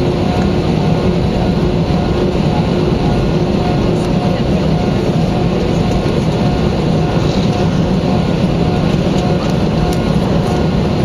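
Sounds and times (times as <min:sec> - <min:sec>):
faint steady tones: 0:00.0 - 0:11.0
jet engines rumbling in cabin: 0:00.0 - 0:11.0.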